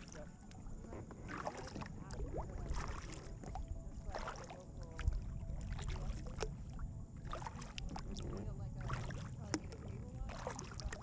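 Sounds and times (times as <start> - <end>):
low steady rumble: 0.0 - 11.0
paddle splashing water: 0.0 - 11.0.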